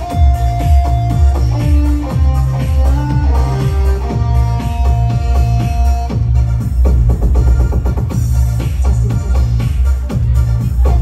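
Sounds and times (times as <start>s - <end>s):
heavy bass line: 0.0s - 11.0s.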